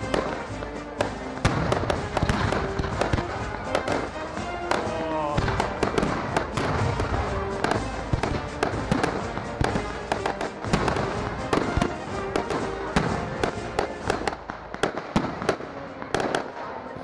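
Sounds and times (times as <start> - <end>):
faint music: 0.0 - 17.0
fireworks bursting: 0.0 - 17.0.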